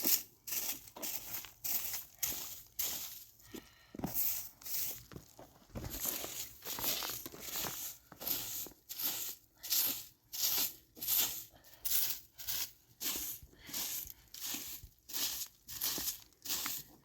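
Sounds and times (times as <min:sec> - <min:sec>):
footsteps crunching in snow: 0:00.0 - 0:17.0.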